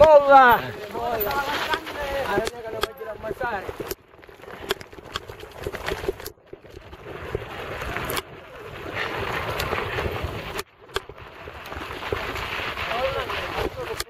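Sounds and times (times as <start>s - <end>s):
bike tyres crunching on gravel: 0.0s - 14.0s
wind noise: 0.0s - 14.0s.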